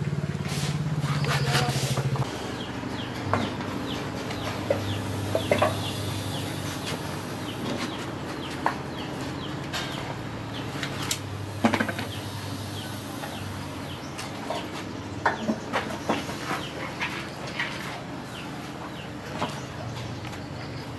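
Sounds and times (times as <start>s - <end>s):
chickens clucking: 0.0s - 20.9s
steady low hum: 0.0s - 20.9s.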